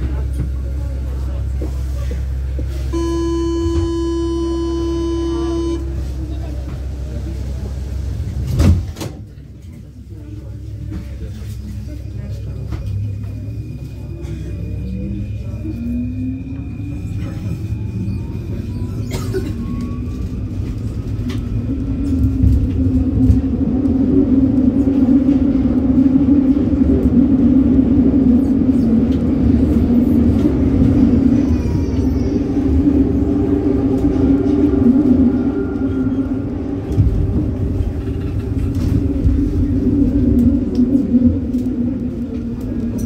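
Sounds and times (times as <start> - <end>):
metro train rumbling and humming: 0.0 - 43.0.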